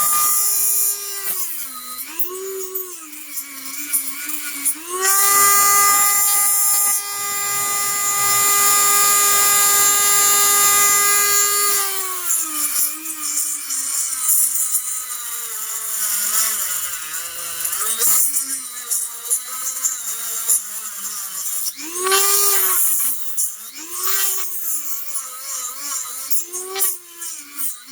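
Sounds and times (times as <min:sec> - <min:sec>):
rotary tool grinding plastic: 0:00.0 - 0:27.9.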